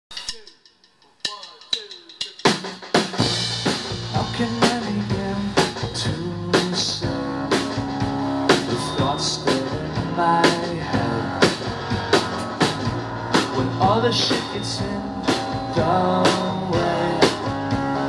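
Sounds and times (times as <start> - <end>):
heavy drum hits: 2.4 - 18.0
live rock band playing: 2.4 - 18.0.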